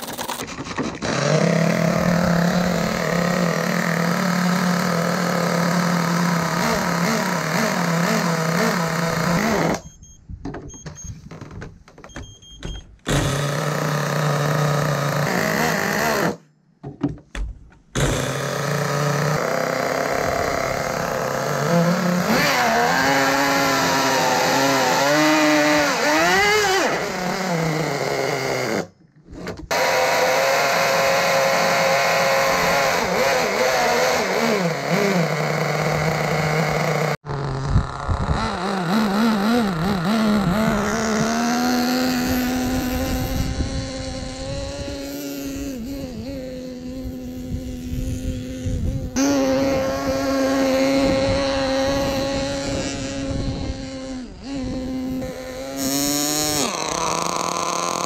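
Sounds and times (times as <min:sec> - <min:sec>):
small model engine idling and revving: 0:00.0 - 0:10.0, 0:13.1 - 0:16.5, 0:18.0 - 0:29.0, 0:29.6 - 0:58.0.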